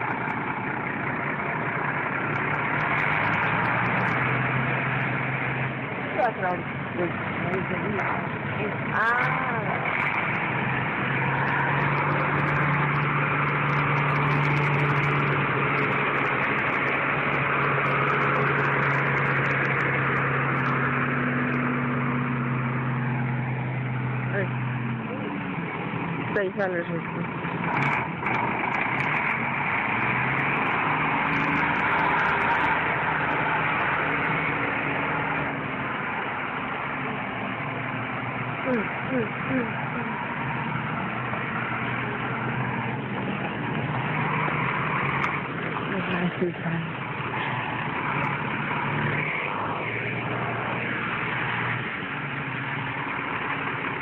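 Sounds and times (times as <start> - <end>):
truck engine driving past: 0.0 - 54.0.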